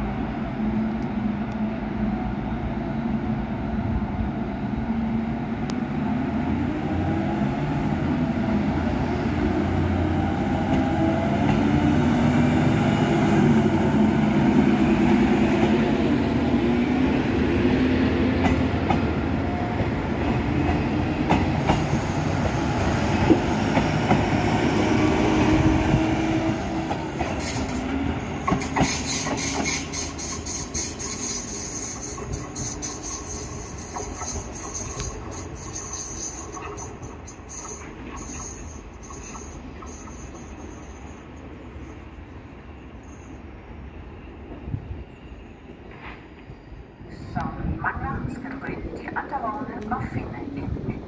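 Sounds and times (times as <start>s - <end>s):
wheels rumbling on rails: 0.0s - 43.4s
diesel train engines: 0.0s - 51.0s
distant train: 0.0s - 51.0s.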